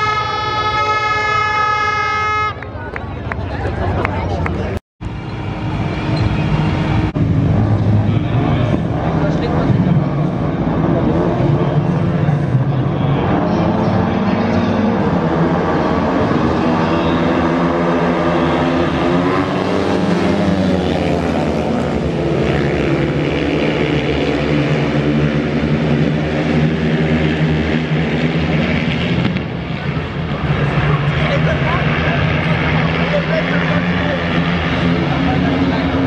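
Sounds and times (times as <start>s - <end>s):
racing motorcycle engines: 0.0s - 36.0s.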